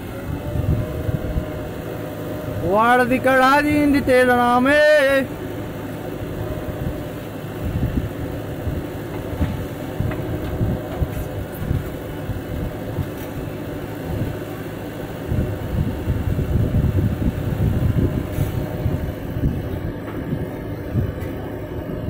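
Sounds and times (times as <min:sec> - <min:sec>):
diesel digger engine under load: 0:00.0 - 0:22.0
tractor engine running: 0:00.0 - 0:22.0.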